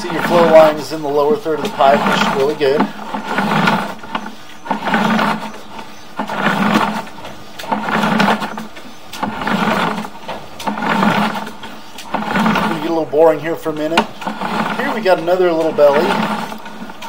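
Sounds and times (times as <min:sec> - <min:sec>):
cable sliding out of pipe: 0:00.0 - 0:17.0.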